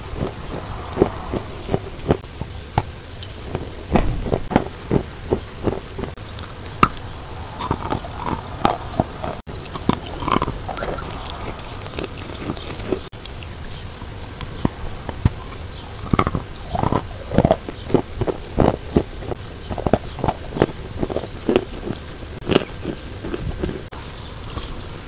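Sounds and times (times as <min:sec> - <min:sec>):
chewing crunchy chalk: 0:00.0 - 0:25.0.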